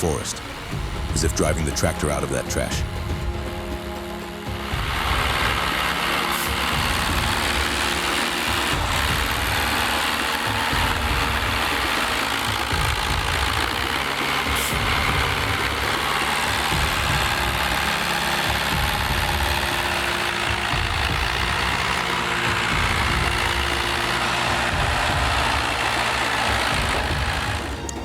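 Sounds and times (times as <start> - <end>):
heavy machine engine running: 0.0 - 28.0.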